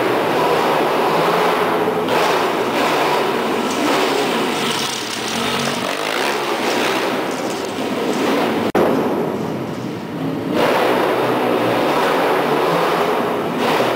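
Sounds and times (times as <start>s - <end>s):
motorbike engine revving: 0.0s - 9.2s, 10.2s - 13.9s.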